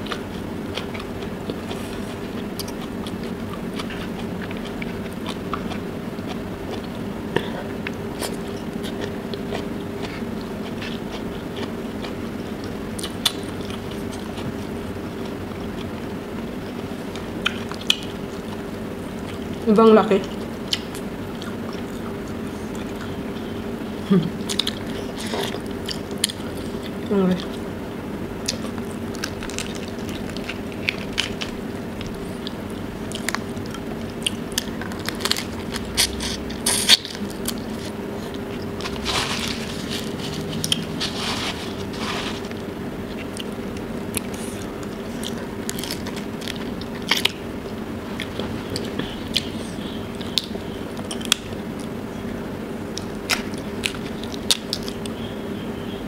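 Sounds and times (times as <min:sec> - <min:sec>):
chewing: 0:00.0 - 0:15.9, 0:20.2 - 0:23.5, 0:24.4 - 0:27.7, 0:28.4 - 0:47.4, 0:48.1 - 0:52.0.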